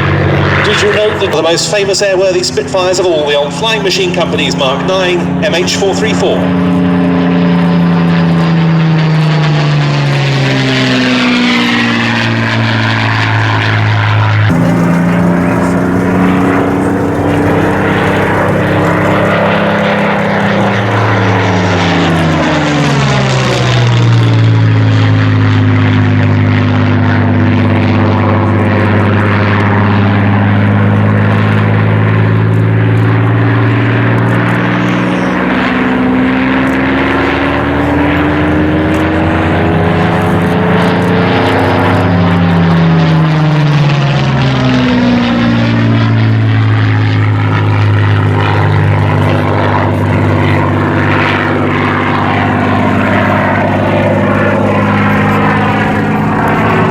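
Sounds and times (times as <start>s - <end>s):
propeller plane engine drone: 0.0s - 56.9s.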